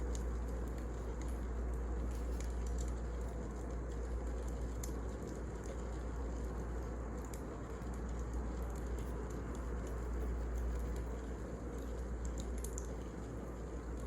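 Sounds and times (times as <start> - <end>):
wood fire burning: 0.0 - 14.0.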